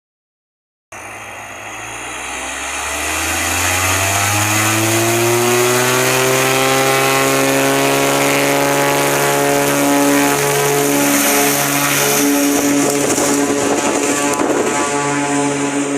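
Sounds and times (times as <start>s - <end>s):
propeller airplane engine: 0.9s - 15.9s.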